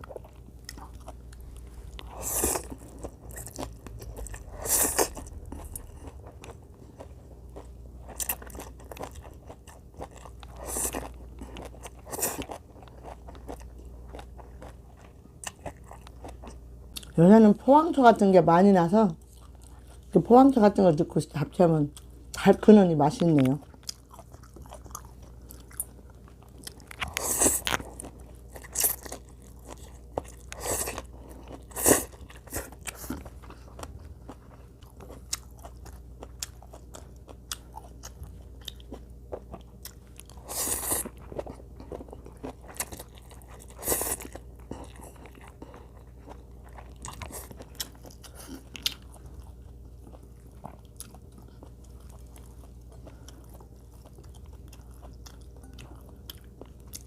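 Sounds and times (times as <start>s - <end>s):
person chewing with wet smacking: 0.0s - 17.2s, 23.2s - 57.0s
faint low hum: 0.0s - 57.0s.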